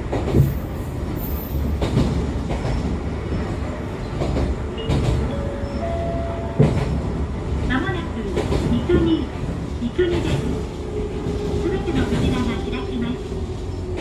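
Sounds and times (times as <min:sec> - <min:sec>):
train running low rumble: 0:00.0 - 0:14.0.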